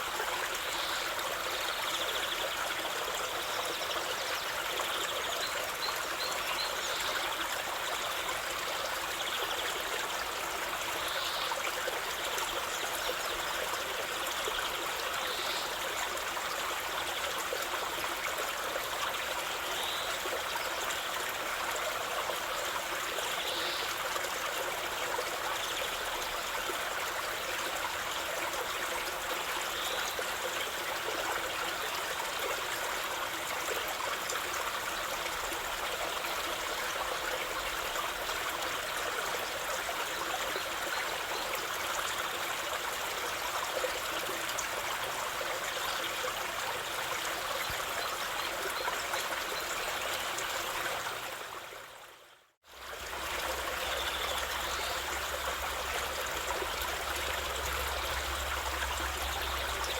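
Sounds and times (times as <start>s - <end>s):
stream water trickling: 0.0s - 59.9s.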